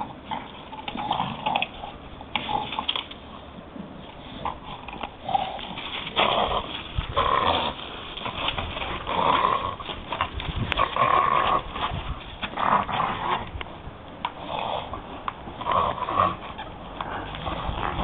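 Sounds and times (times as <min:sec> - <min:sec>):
dog breathing and grunting: 0:00.0 - 0:18.0
dog gnawing wooden log: 0:00.0 - 0:18.0.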